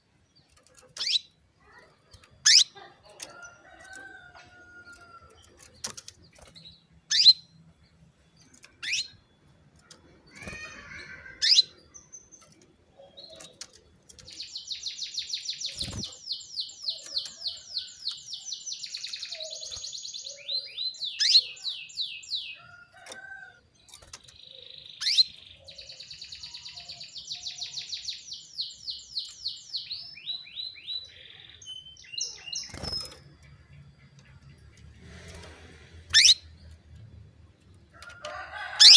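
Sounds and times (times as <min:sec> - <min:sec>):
canary chirps: 0:00.4 - 0:07.6, 0:08.3 - 0:37.2, 0:38.2 - 0:38.9.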